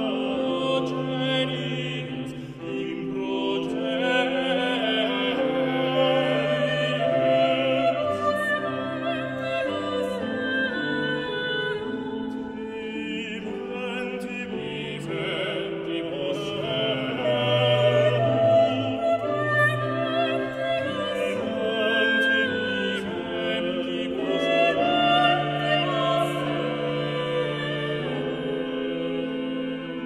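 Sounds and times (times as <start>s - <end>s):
slow classical music: 0.0s - 30.0s.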